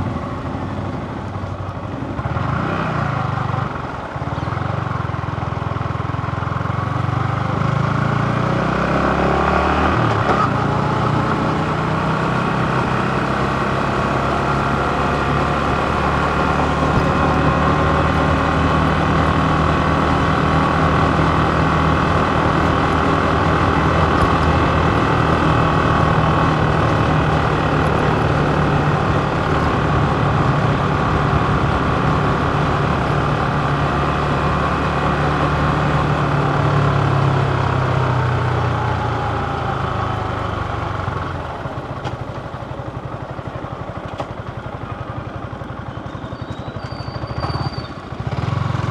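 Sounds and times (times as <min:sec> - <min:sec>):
motorcycle engine accelerating: 0:00.0 - 0:48.9
wind and road noise: 0:00.0 - 0:48.9.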